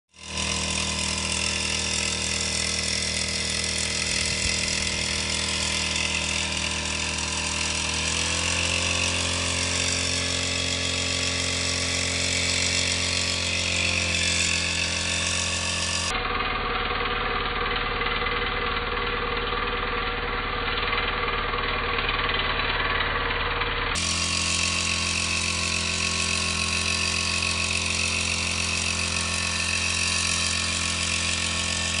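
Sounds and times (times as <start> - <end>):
power sprayer engine running: 0.1 - 32.0.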